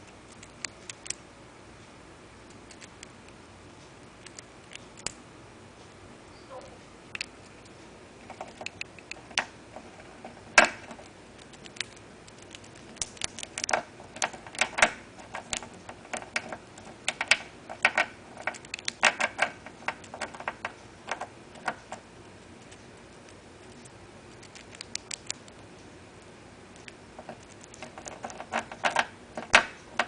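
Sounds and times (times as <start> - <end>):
squirrel gnawing a nut: 0.0 - 1.4, 2.3 - 6.0, 6.7 - 30.0.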